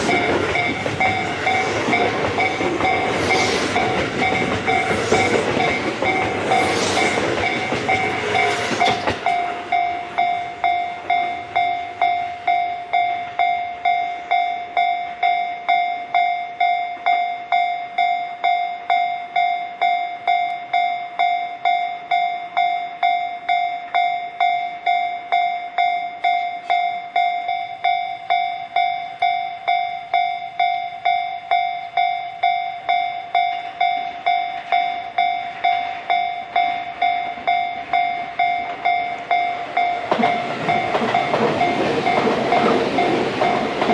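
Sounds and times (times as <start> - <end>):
level crossing bell ringing: 0.0 - 43.9
train passing over rails: 0.0 - 43.9.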